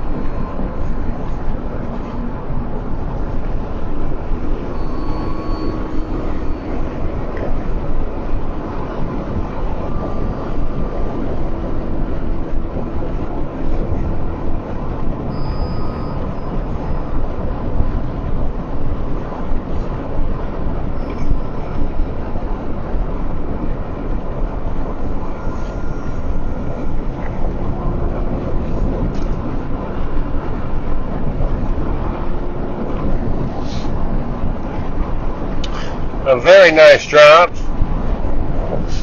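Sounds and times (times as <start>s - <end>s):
car interior road and engine noise: 0.0s - 39.0s.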